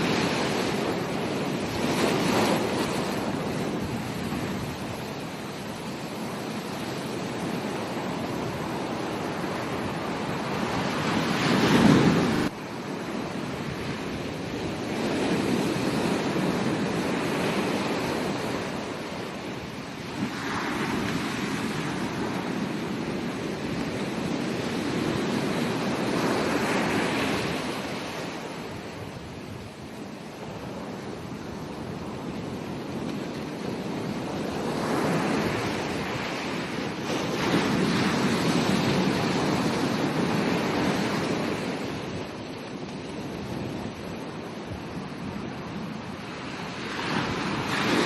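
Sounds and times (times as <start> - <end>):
ocean waves breaking on beach: 0.0 - 48.0.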